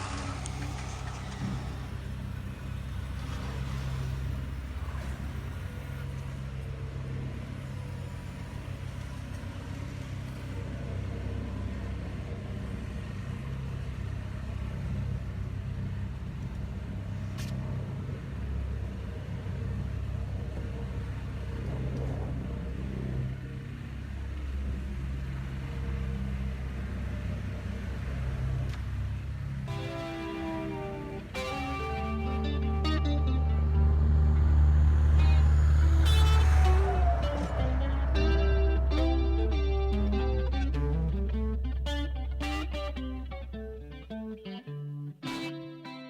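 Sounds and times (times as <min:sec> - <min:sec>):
low engine-like rumble: 0:00.0 - 0:45.2.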